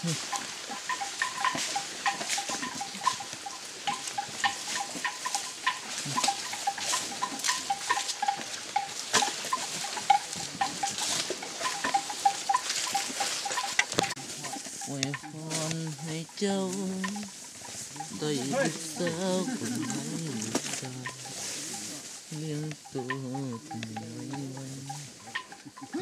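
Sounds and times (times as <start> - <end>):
crackling and snapping undergrowth: 0.0 - 26.0.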